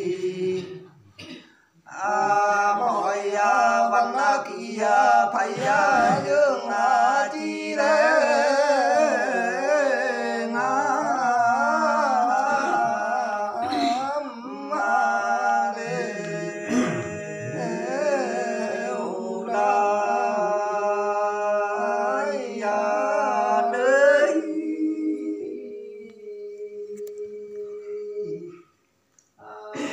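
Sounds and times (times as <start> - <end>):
man singing unaccompanied: 1.9 - 28.6.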